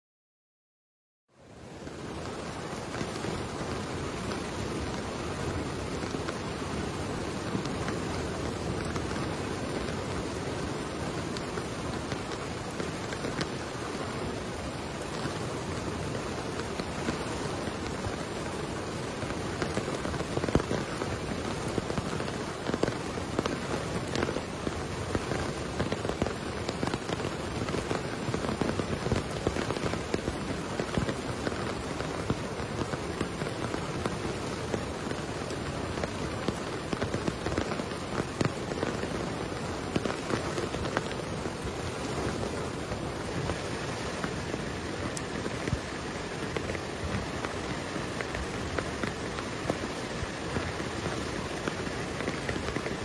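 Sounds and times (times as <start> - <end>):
heavy rain on flooded ground: 1.3 - 53.0.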